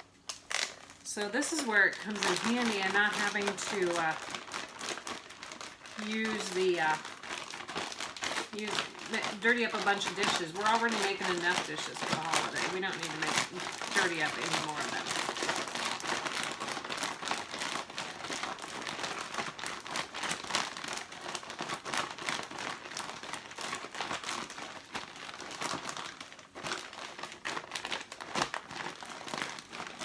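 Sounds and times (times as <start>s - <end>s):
plastic bag crinkling: 0.0s - 30.0s.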